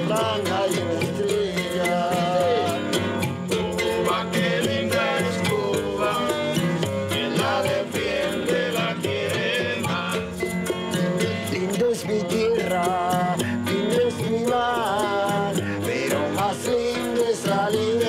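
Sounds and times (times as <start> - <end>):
acoustic guitars strumming: 0.0 - 18.0
maracas shaking: 0.0 - 18.0
plucked bass box: 0.0 - 18.0.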